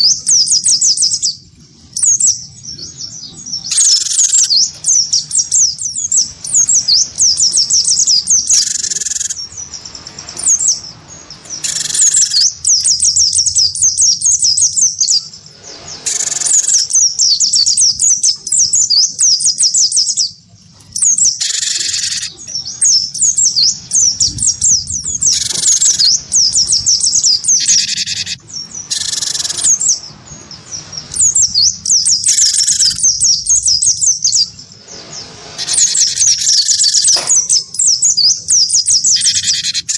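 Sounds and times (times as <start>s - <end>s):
fast high twittering birdsong: 0.0s - 39.9s.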